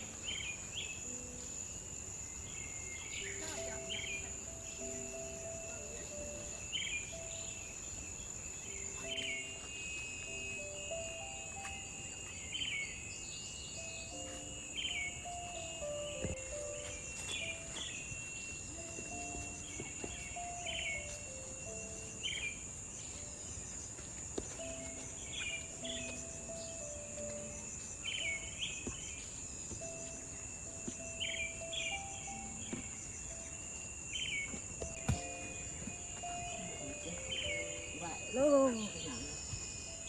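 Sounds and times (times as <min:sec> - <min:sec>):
insects droning: 0:00.0 - 0:40.0
soft background melody: 0:00.0 - 0:40.0.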